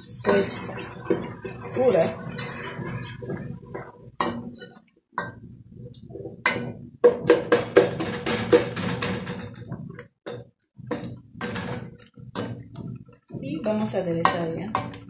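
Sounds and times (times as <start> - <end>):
wooden spoon knocking metal pot: 0.2 - 15.0.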